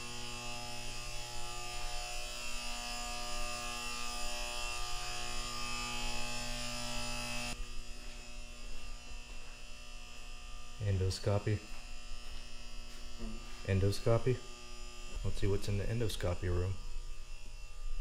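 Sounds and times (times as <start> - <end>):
electrical mains hum and buzz: 0.0 - 18.0.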